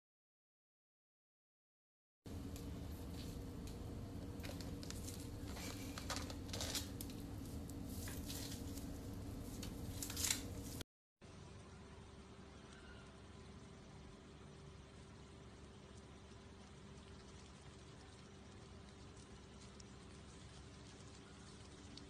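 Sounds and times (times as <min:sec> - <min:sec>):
room noise hum: 0:02.3 - 0:22.0.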